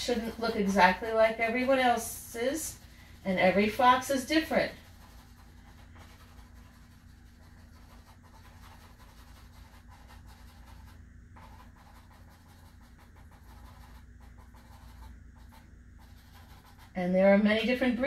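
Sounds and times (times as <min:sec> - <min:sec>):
pencil scratching on paper: 0:00.0 - 0:17.0
low steady hum: 0:00.0 - 0:18.0.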